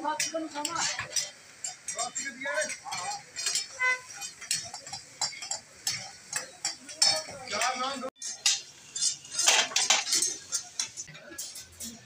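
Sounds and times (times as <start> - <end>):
metal utensils scraping a pan: 0.0 - 12.0.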